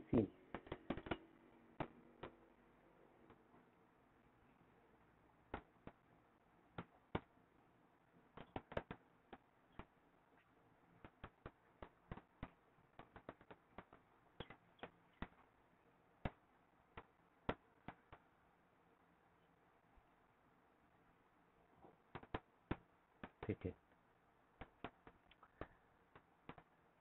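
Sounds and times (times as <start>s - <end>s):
faint background hiss: 0.0s - 27.0s.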